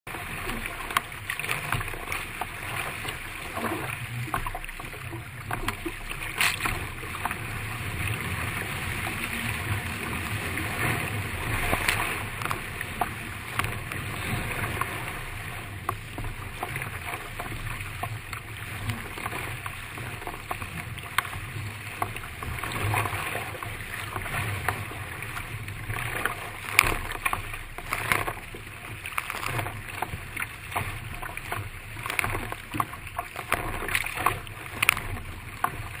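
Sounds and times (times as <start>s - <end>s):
water and wind rushing: 0.0s - 36.0s
paddle strokes splashing: 0.1s - 36.0s.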